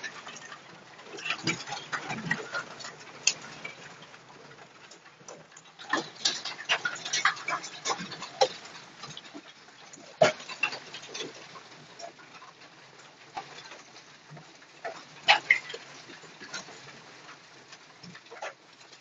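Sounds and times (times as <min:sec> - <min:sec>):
hail hissing on roof: 0:00.0 - 0:19.0
hailstones clicking and knocking: 0:00.0 - 0:19.0.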